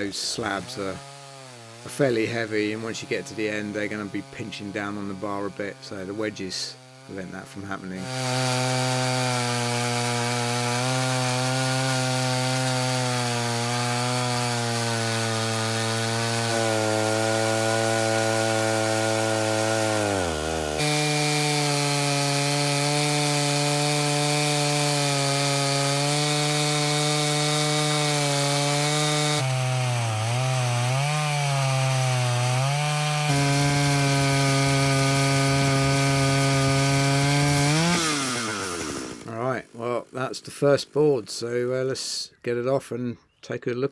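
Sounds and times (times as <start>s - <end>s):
chainsaw cutting through log: 0.0s - 41.0s.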